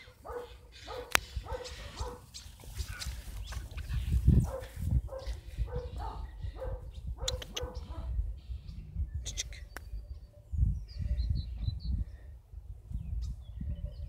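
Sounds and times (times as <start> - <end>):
wind on microphone: 0.8 - 14.0.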